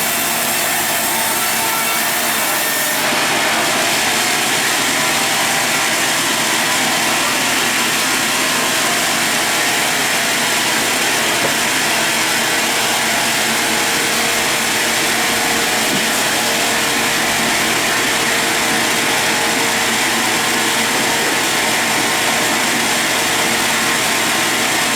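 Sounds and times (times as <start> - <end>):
sawmill machinery running: 0.0 - 24.9.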